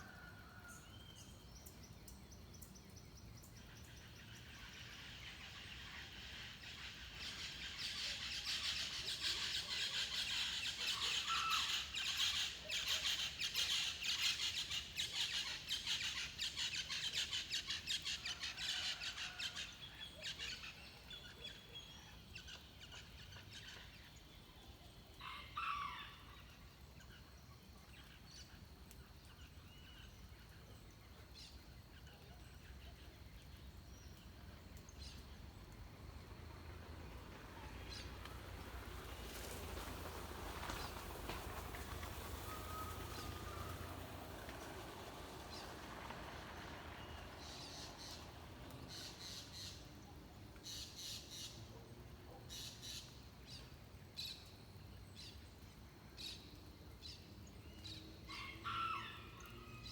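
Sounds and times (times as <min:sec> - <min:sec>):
forest birds singing: 0:00.0 - 0:59.9.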